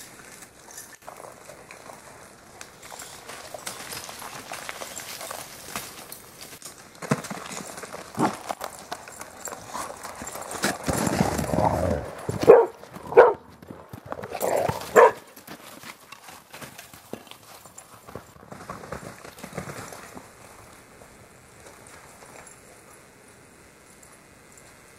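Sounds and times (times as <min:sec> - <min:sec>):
footfalls crunching on snow: 0:01.2 - 0:22.5.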